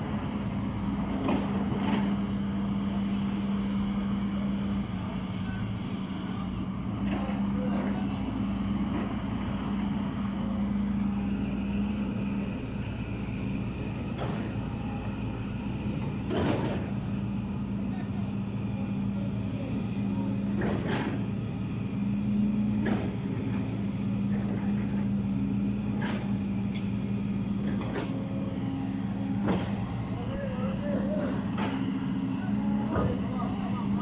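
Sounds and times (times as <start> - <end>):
backhoe diesel engine running: 0.0 - 34.0.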